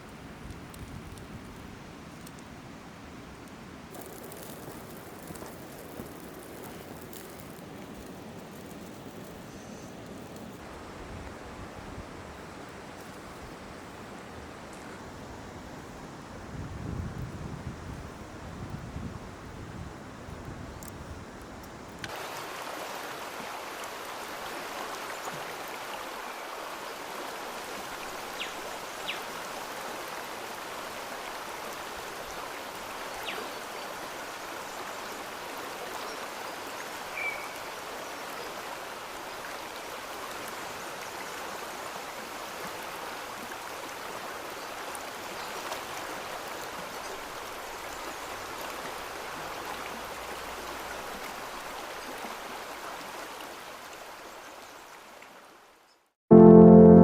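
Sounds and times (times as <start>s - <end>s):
stream flowing: 0.0s - 16.3s, 22.0s - 57.0s.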